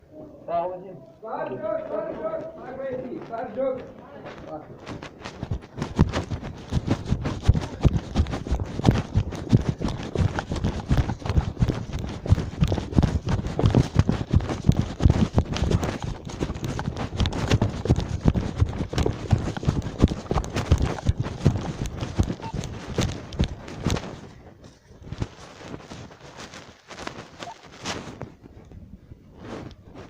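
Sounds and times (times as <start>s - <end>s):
running footsteps: 1.6s - 28.8s.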